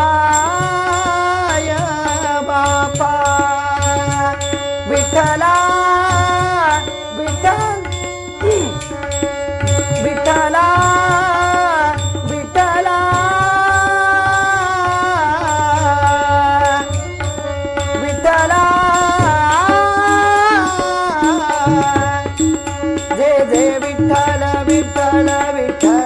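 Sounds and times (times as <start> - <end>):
hand drum: 0.0 - 16.1, 16.7 - 26.0
harmonium: 0.0 - 26.0
man singing devotional song: 0.0 - 26.0.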